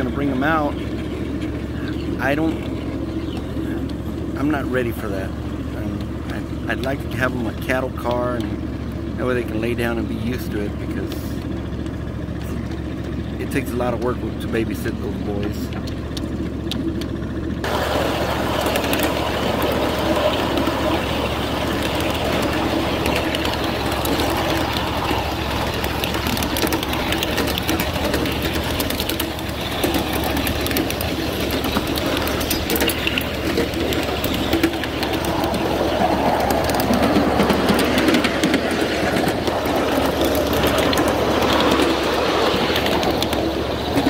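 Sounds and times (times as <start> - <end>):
locomotive low hum: 0.0 - 44.0
train wheels clicking over rail joints: 0.0 - 44.0.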